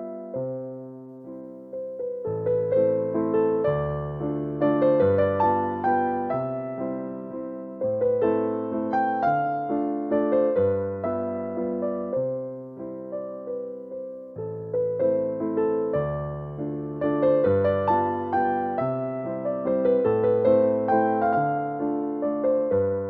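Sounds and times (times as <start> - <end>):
gentle electric piano music: 0.0 - 23.0.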